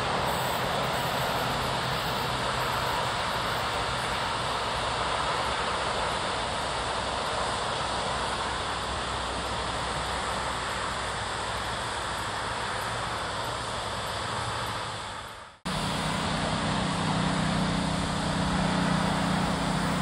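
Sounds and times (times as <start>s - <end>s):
passing train rumble: 0.0s - 20.0s.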